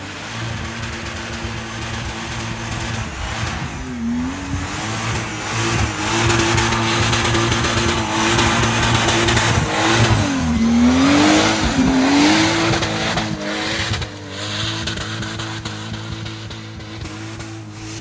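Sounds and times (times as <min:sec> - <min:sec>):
tyres churning mud: 0:00.0 - 0:17.4
engine driving hard past: 0:00.0 - 0:18.0.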